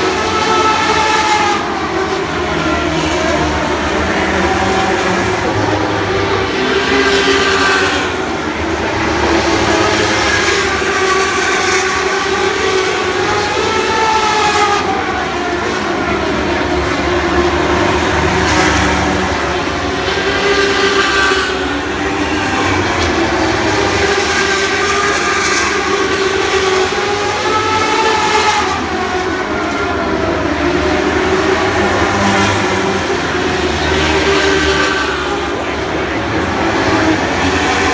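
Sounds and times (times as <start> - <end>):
racing engines at high revs: 0.0 - 37.9.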